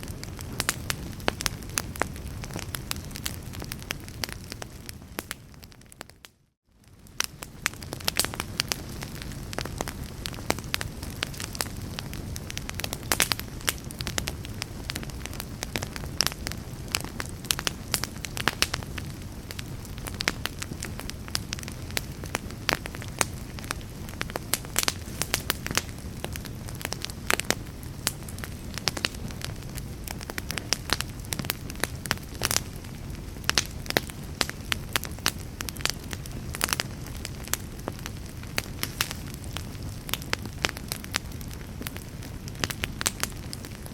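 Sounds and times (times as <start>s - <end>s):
fire crackling and popping: 0.0s - 43.9s
low rumble of flames: 0.0s - 43.9s.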